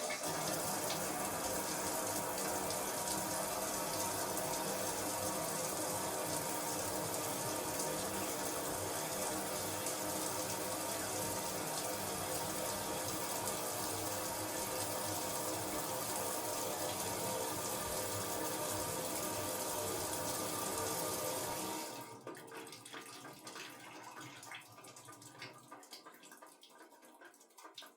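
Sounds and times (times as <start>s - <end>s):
shower running: 0.0s - 27.9s.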